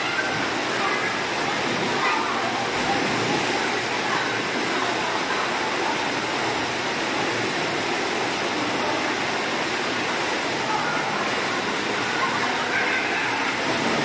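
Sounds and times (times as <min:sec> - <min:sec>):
water splashing into pool: 0:00.0 - 0:12.0, 0:13.0 - 0:14.0
water rushing down slides: 0:00.0 - 0:14.0.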